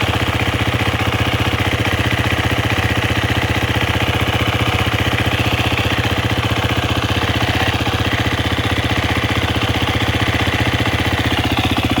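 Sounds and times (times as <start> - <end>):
abnormal engine ticking noise: 0.0 - 12.0
motorcycle engine idling: 0.0 - 12.0.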